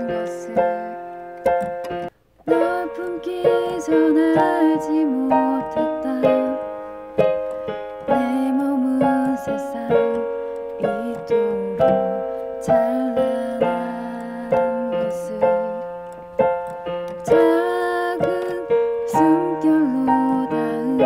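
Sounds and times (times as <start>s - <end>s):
piano ballad chords: 0.0s - 21.0s.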